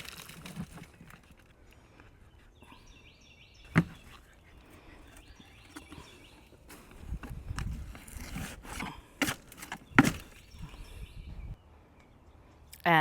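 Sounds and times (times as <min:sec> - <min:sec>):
songbird singing: 0:00.7 - 0:08.3, 0:08.9 - 0:13.0.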